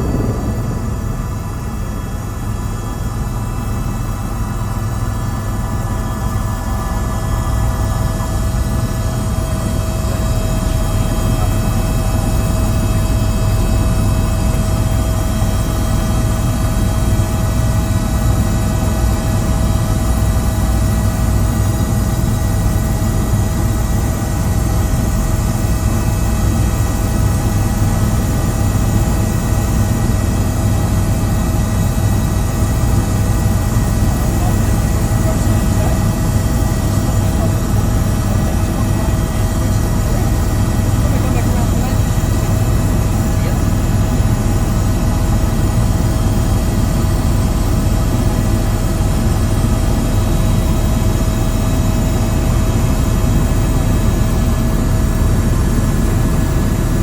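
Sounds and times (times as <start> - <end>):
aircraft engine drone: 0.0 - 57.0.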